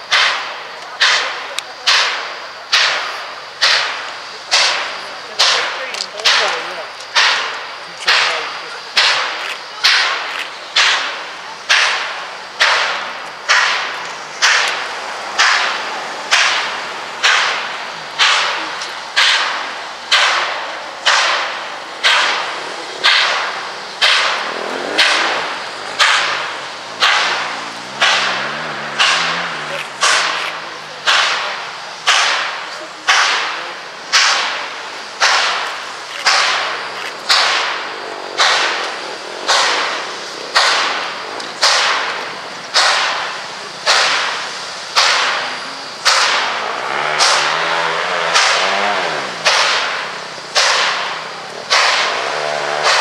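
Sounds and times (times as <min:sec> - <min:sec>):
steam locomotive exhaust chuffing: 0:00.0 - 0:53.0.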